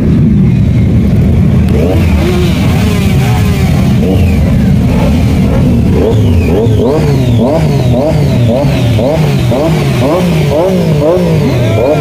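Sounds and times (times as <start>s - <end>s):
engines revving in blips: 1.5s - 12.0s.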